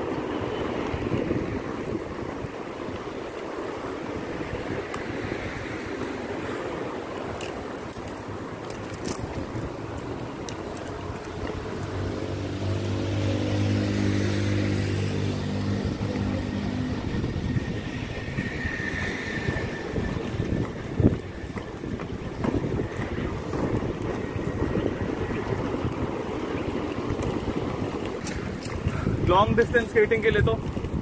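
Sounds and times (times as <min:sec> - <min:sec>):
skate wheels rolling on asphalt: 0:00.0 - 0:31.0
vehicle engine hum: 0:00.0 - 0:31.0
wind on microphone: 0:00.0 - 0:31.0.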